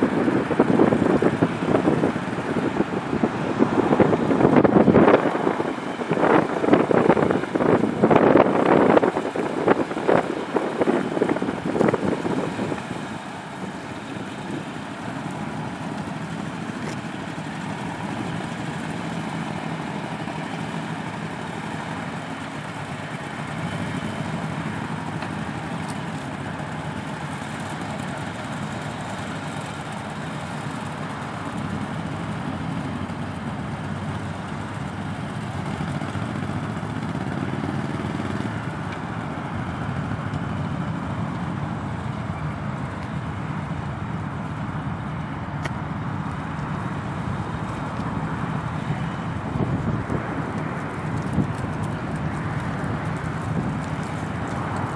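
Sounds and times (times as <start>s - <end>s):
motorcycle engines running: 0.0s - 54.9s.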